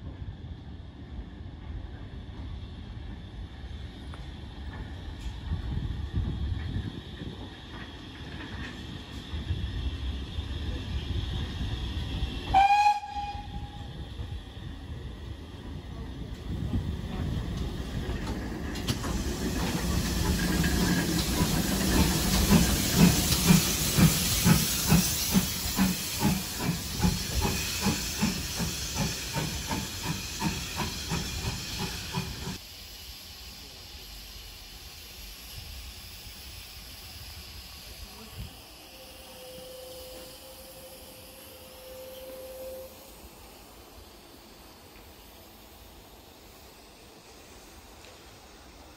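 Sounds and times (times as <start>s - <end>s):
steam hissing: 0.4s - 48.9s
steam locomotive exhaust chuffs: 1.6s - 48.8s.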